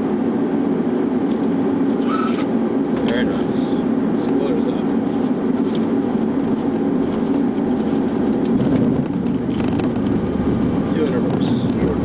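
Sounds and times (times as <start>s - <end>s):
jet airliner cockpit noise: 0.0s - 12.0s.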